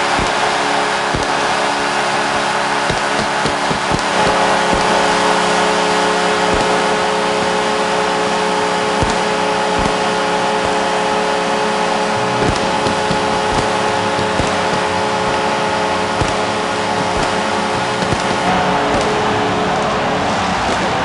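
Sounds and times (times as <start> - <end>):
crowd cheering: 0.0 - 21.0
held tones: 0.0 - 21.0.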